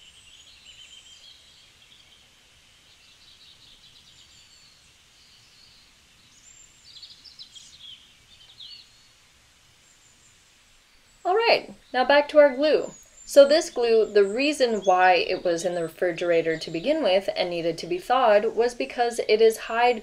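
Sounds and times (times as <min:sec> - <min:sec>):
faint birds chirping: 0:00.0 - 0:20.0
low steady background noise: 0:00.0 - 0:20.0.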